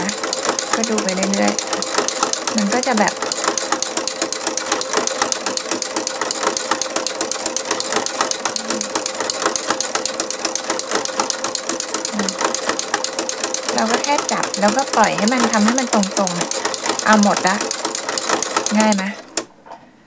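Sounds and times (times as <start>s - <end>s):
sewing machine stitching: 0.0s - 19.5s.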